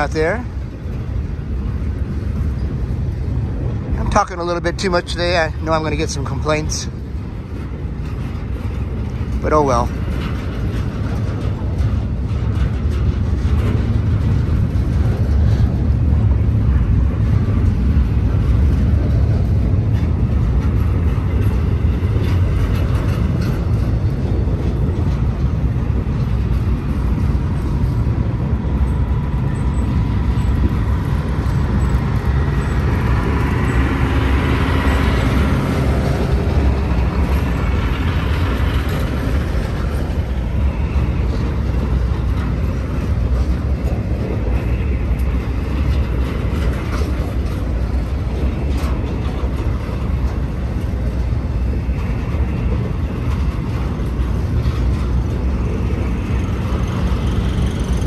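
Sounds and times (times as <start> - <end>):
freight train clattering over rails: 0.0 - 58.0.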